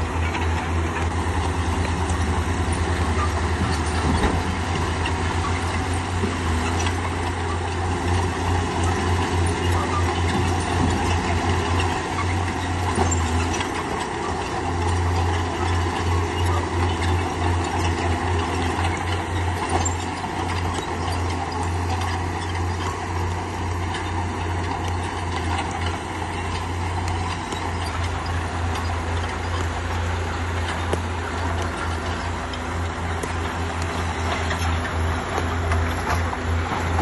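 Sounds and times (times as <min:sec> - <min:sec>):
diesel engine throbbing: 0:00.0 - 0:37.0.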